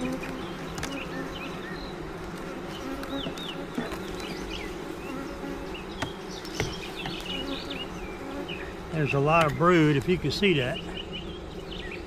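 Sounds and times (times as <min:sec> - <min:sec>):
knocks of hive frame handling: 0:00.0 - 0:10.5
honey bees buzzing: 0:00.0 - 0:12.0.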